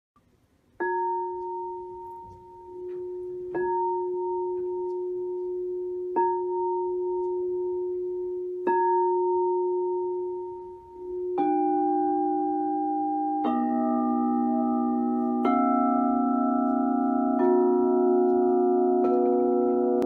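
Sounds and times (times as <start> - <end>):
singing bowl ringing: 0.8 - 20.0.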